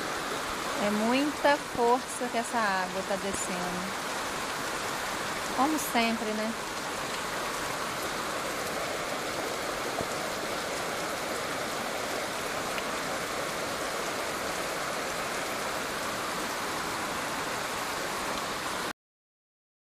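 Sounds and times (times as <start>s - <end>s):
floodwater rushing down street: 0.0s - 18.9s
heavy rain: 0.0s - 18.9s.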